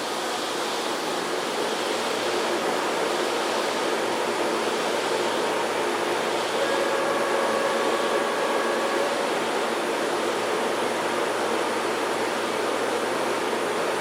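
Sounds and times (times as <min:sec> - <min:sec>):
faint train whine: 0:00.0 - 0:14.0
train wheels rushing on rail: 0:00.0 - 0:14.0.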